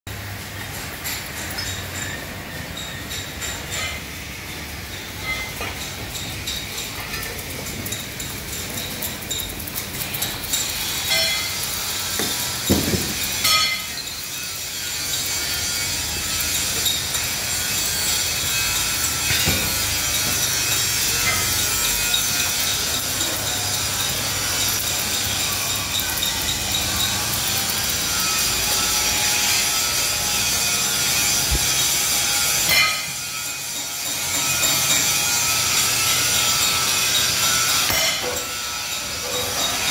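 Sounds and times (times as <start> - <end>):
rasping metalworking machine: 0.1 - 39.9.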